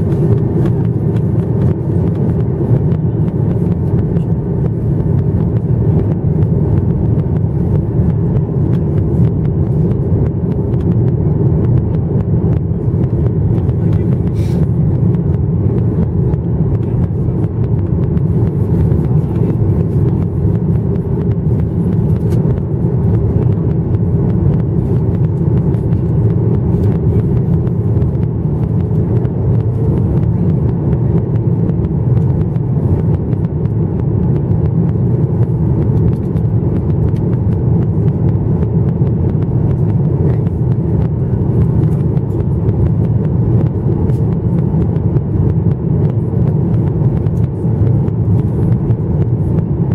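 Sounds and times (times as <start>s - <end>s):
jet engine rumble: 0.0s - 49.9s.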